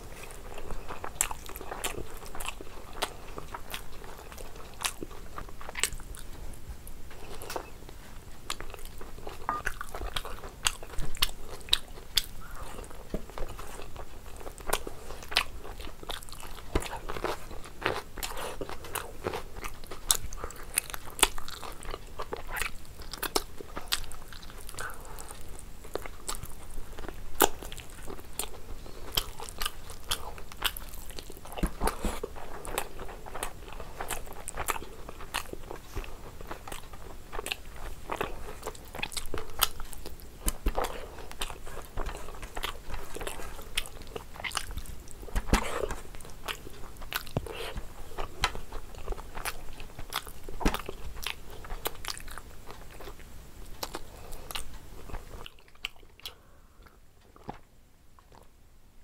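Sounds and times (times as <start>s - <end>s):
person chewing and crunching: 0.0s - 57.6s.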